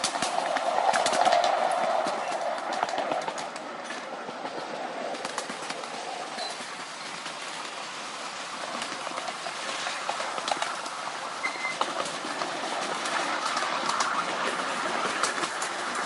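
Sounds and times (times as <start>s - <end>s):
clicks over rail joints: 0.0s - 16.0s
train wheels rumbling on rails: 0.0s - 16.0s.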